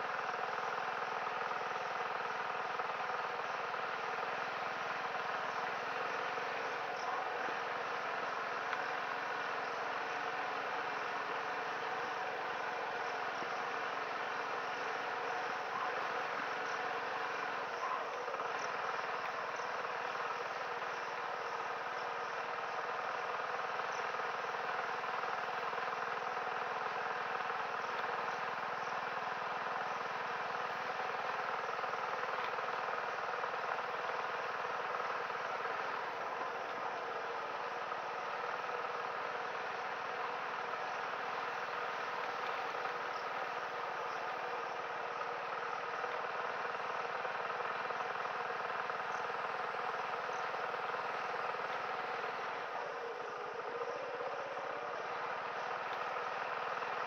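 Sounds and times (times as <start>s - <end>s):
faint insect chirping: 0.0s - 57.0s
moped engine running: 0.0s - 57.0s.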